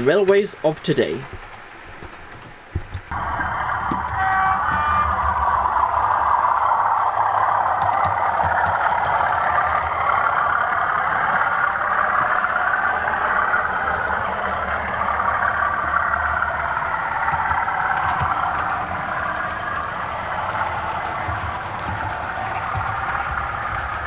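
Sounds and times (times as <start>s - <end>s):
model train motor and wheels: 1.2s - 24.0s.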